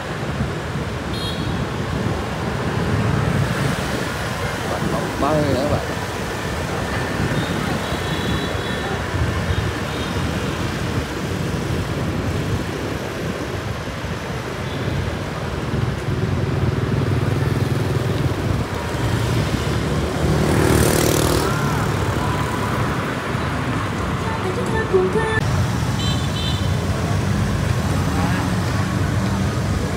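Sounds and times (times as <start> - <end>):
motorbike and car engines: 0.0 - 29.9.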